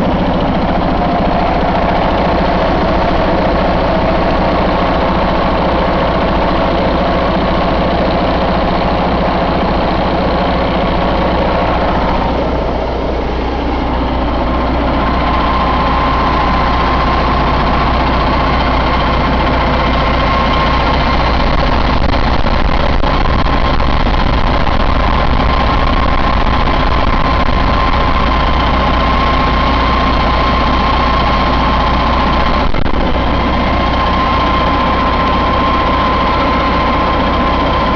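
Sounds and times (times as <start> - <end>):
diesel engine idling: 0.0 - 37.9
steady high whine: 0.0 - 37.9.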